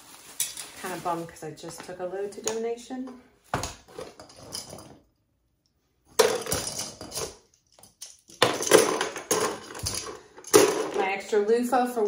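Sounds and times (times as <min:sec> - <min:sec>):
rustling and clattering items: 0:00.0 - 0:05.2, 0:06.0 - 0:12.0.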